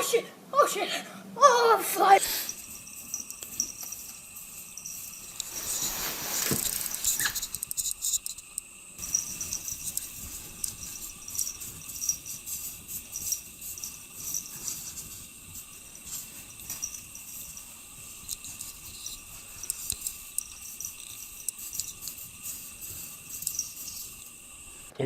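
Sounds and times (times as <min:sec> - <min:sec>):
insects chirping: 0:02.0 - 0:25.0.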